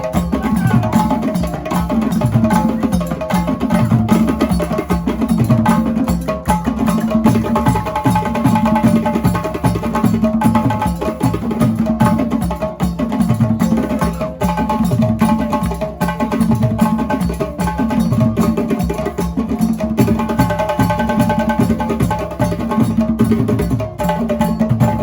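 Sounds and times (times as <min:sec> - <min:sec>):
drums: 0:00.0 - 0:25.0.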